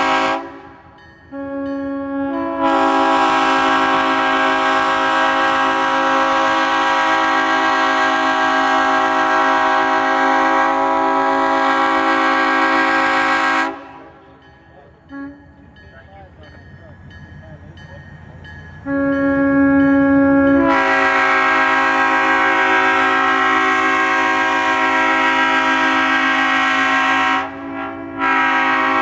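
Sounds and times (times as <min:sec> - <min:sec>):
locomotive air horn chord: 0:00.0 - 0:14.4, 0:15.1 - 0:15.7, 0:18.8 - 0:29.0.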